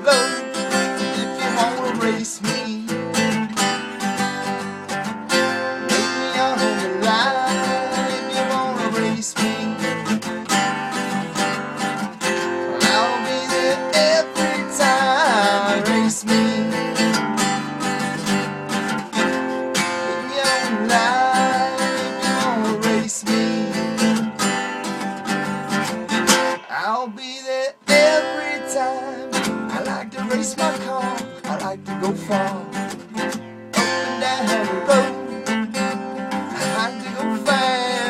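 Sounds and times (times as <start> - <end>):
strummed acoustic guitar: 0.0 - 38.0.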